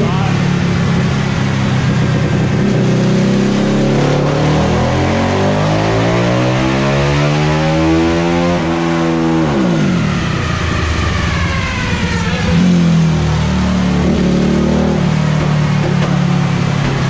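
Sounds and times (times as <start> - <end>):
high whine winding down: 0.0 - 15.8
motorcycle engine revving and idling: 0.0 - 17.0.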